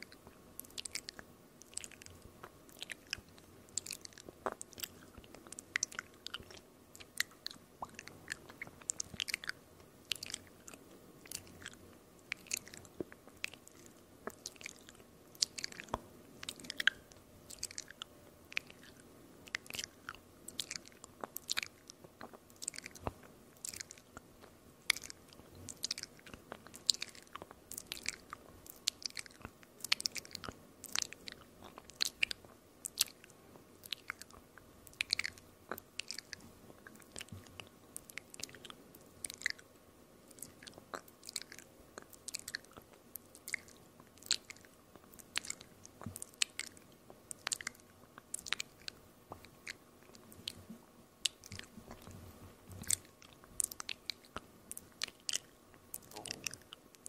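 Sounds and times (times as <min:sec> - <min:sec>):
tongue and lip clicks: 0:00.0 - 0:57.0.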